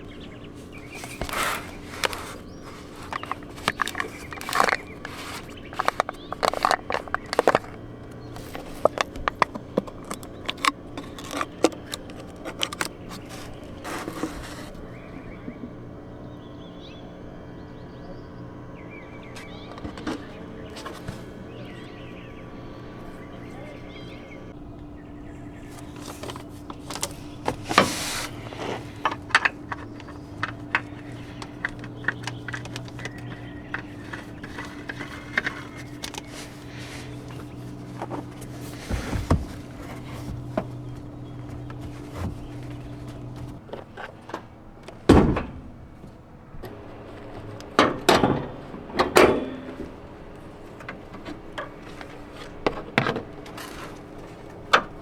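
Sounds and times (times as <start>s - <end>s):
tools and parts clunking: 0.0s - 15.8s, 19.1s - 24.6s, 25.3s - 55.0s
steady low hum: 0.0s - 55.0s.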